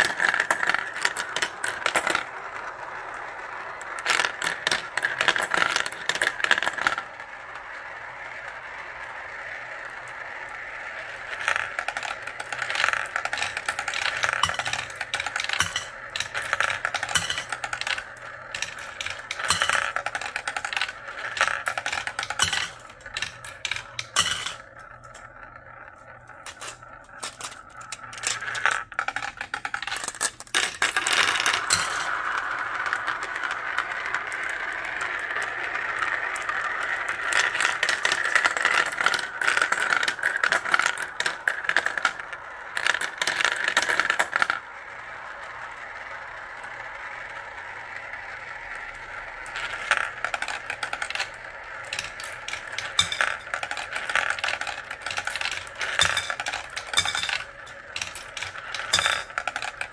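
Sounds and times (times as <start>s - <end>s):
marbles rolling and clicking: 0.0s - 59.9s
marbles whirring in plastic funnel: 0.0s - 59.9s.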